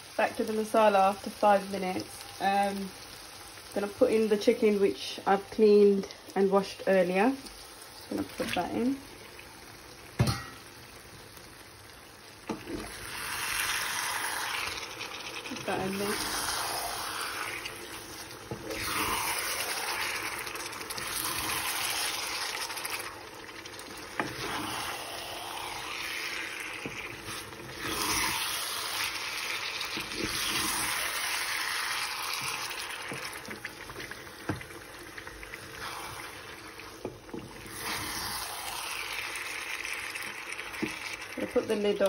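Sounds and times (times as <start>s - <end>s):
food sizzling in a frying pan: 0.0s - 42.0s.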